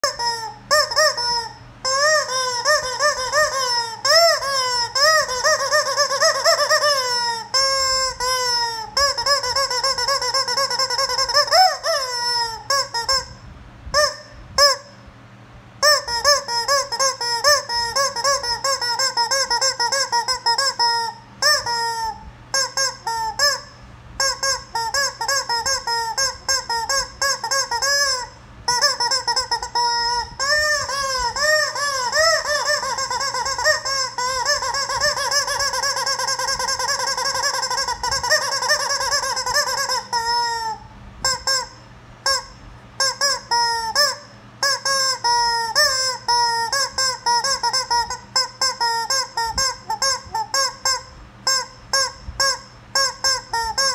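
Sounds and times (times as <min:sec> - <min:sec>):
rubber chicken toy squeaking: 0:00.0 - 0:15.0, 0:15.8 - 0:53.9.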